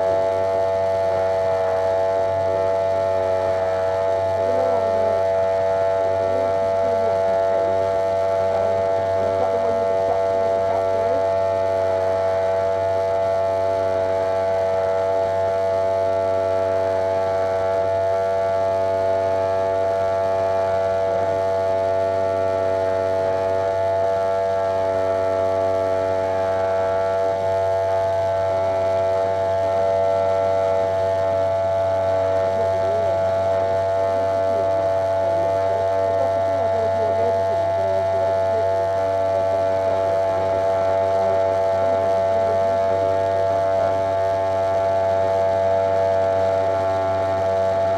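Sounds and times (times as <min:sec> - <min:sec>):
electric hair clipper buzzing: 0:00.0 - 0:47.9.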